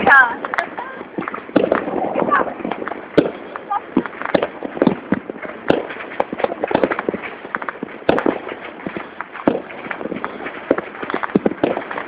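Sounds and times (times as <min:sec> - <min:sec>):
firecrackers popping and banging: 0:00.0 - 0:12.0.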